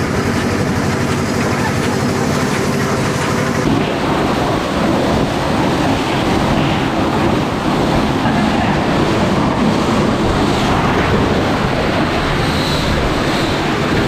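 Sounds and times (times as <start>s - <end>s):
engine hum: 0.0s - 14.0s.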